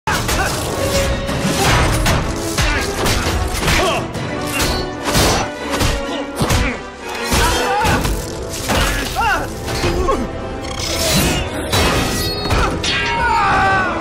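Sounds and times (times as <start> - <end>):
dramatic film score: 0.1 - 14.0.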